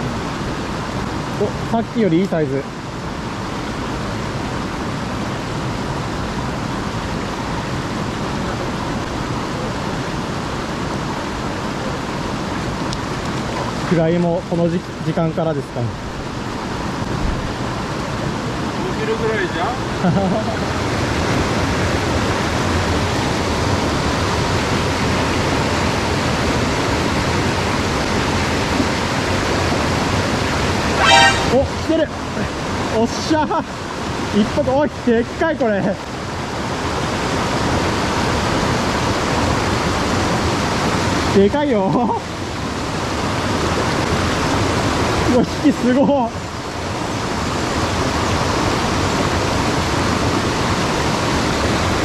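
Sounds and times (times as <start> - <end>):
stream rushing: 0.0 - 52.0.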